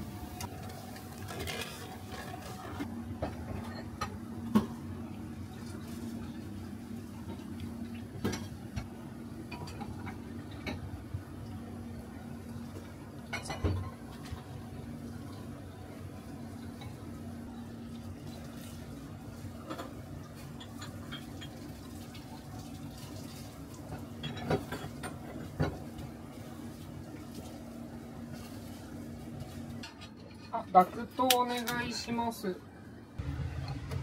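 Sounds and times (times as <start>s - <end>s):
kitchen hum: 0.0s - 34.0s.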